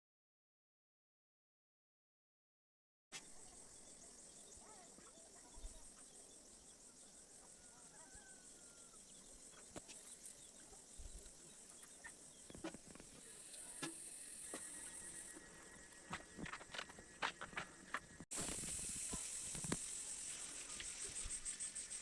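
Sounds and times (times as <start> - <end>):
faint insect chirring: 3.2 - 22.0.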